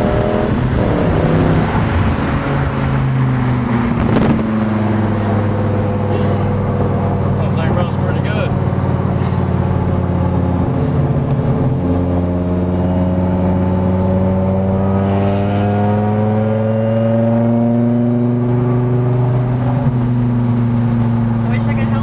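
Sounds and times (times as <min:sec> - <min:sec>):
performance car engine accelerating: 0:00.0 - 0:22.0.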